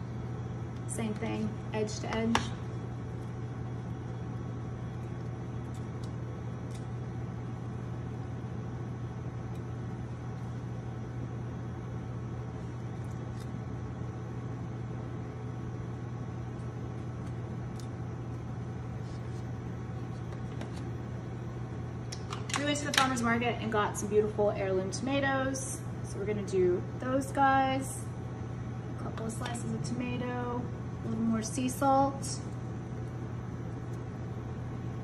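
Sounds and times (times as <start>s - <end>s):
kitchen equipment hum: 0.0s - 35.0s.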